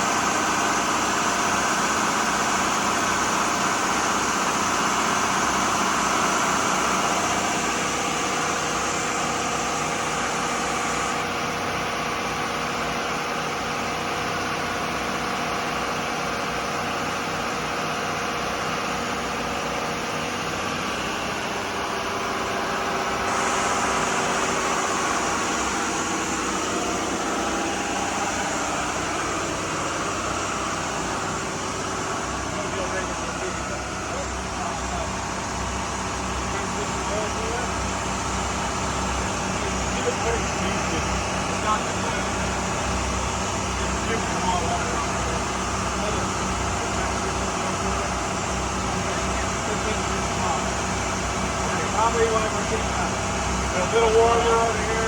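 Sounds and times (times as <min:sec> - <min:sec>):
boat diesel engines running: 0:00.0 - 0:55.0.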